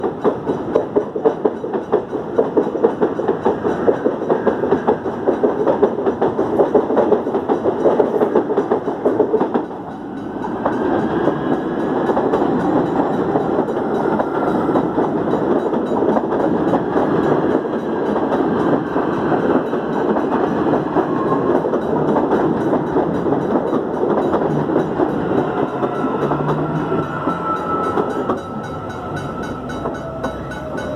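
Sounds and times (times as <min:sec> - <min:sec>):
train wheels clattering over joints: 0:00.0 - 0:30.9.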